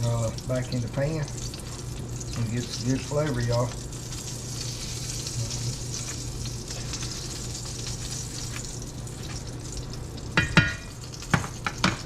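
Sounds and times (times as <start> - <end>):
grease sizzling in a skillet: 0.0 - 12.0
low steady hum: 0.0 - 12.0.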